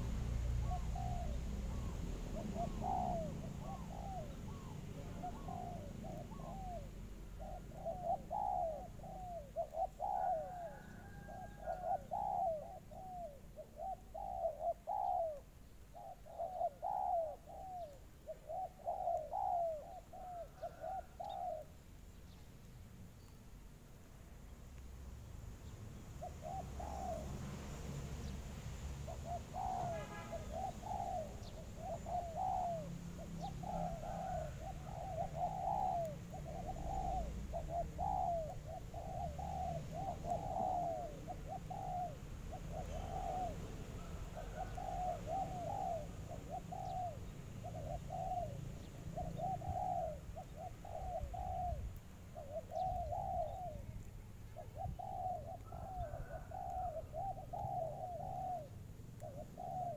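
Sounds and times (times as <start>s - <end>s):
dove cooing: 0.0s - 21.8s, 26.2s - 28.0s, 29.0s - 59.9s.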